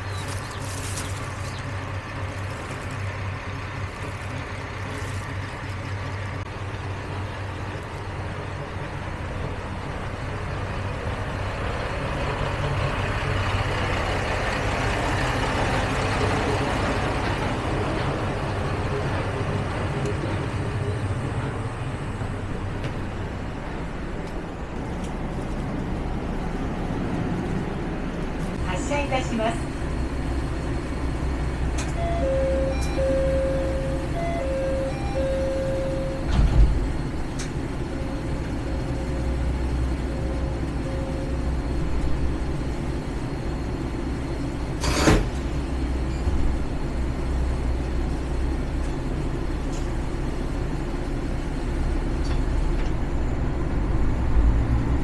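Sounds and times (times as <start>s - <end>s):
diesel railcar engine hum: 0.0s - 55.0s
train running noise: 0.0s - 55.0s.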